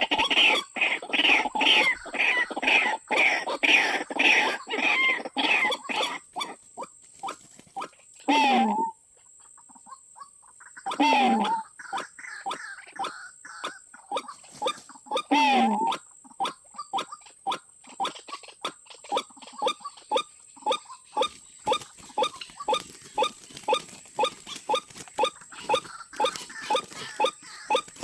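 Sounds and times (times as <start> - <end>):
waterhen calling: 0.0 - 6.6, 8.3 - 8.9, 10.8 - 28.0.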